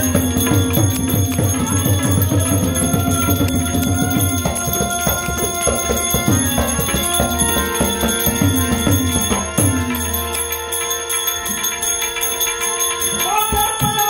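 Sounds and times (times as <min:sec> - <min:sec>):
harmonium held notes: 0:00.0 - 0:14.0
tabla strokes: 0:00.0 - 0:14.0.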